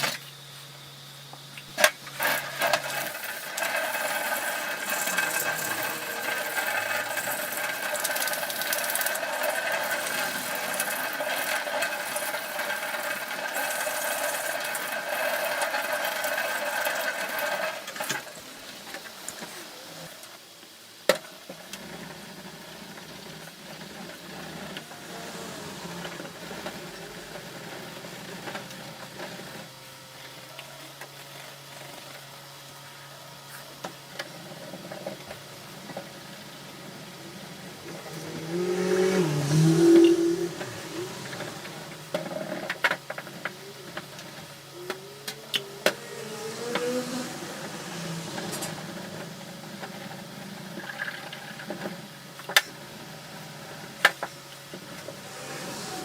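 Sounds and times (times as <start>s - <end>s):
small electric motor running: 0.0s - 20.2s, 21.7s - 52.0s, 53.2s - 56.0s.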